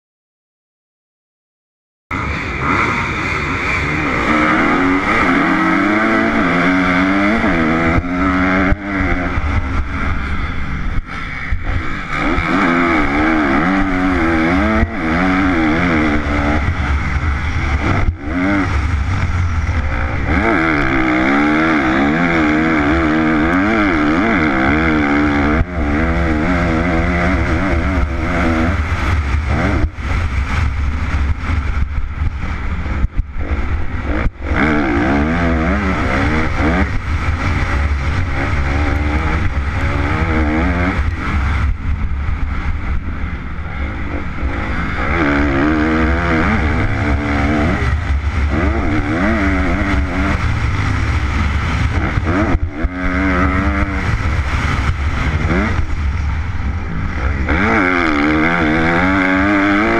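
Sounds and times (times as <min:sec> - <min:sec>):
motocross engine revving: 0:02.1 - 0:59.9
wind rush on microphone: 0:02.1 - 0:59.9.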